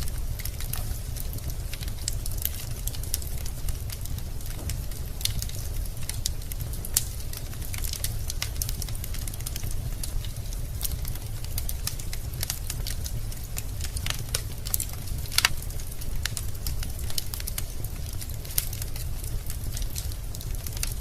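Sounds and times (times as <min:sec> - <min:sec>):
low rumble of burning logs: 0:00.0 - 0:21.0
wood fire crackling and popping: 0:00.0 - 0:21.0.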